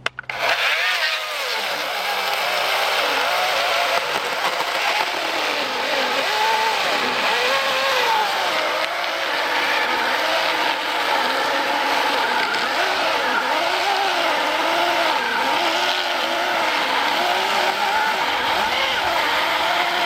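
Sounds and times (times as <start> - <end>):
electric chainsaw cutting wood: 0.0 - 20.0.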